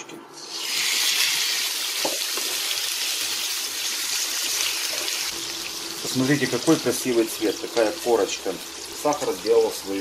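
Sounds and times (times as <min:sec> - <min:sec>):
pork frying in a pan: 0:00.4 - 0:10.0.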